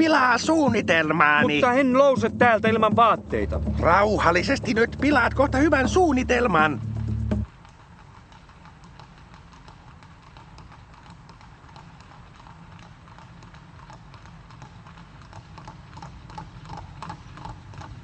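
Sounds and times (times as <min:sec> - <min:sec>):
cartoon horse hooves clip-clopping: 0:00.0 - 0:18.0.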